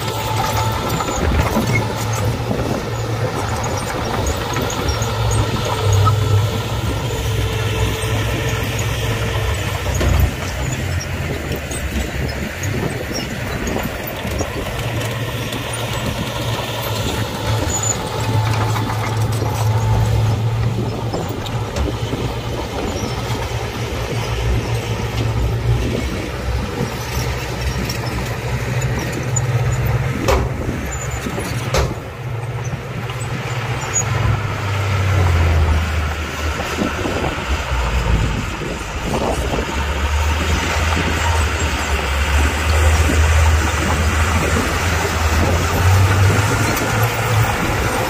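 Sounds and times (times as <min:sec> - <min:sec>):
heavy diesel engine under load: 0:00.0 - 0:48.0.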